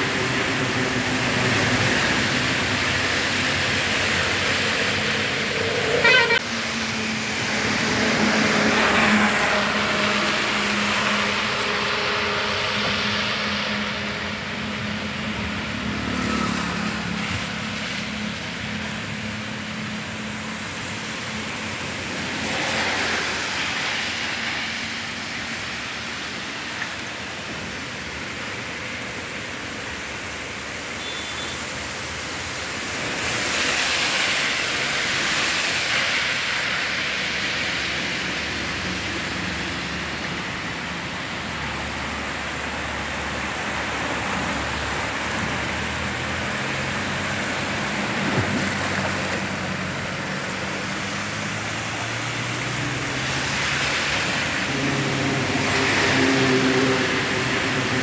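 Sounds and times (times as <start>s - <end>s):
cars driving through water: 0.0s - 58.0s
rain: 0.0s - 58.0s.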